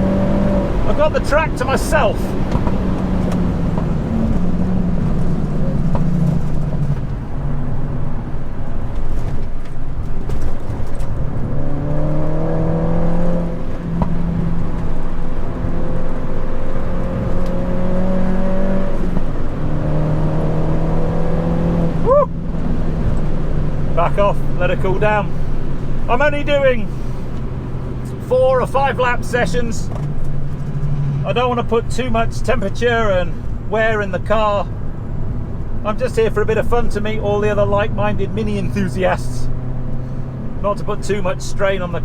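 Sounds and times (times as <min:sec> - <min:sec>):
car engine driven hard: 0:00.0 - 0:42.0.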